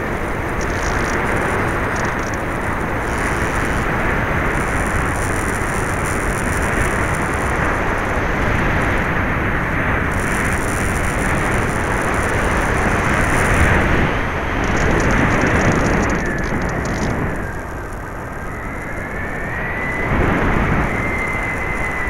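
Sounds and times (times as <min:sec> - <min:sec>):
electric motor and propeller: 0:00.0 - 0:22.0
high hiss: 0:00.0 - 0:22.0
wind rushing over microphone: 0:00.0 - 0:22.0.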